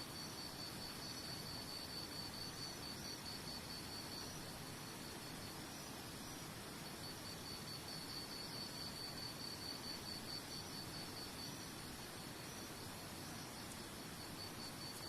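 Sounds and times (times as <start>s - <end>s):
soft background hiss: 0.0s - 15.0s
crickets trilling: 0.2s - 15.0s.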